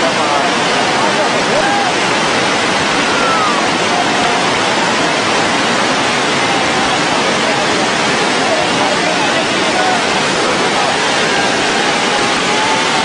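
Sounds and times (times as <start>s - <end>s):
river roaring: 0.0s - 13.0s.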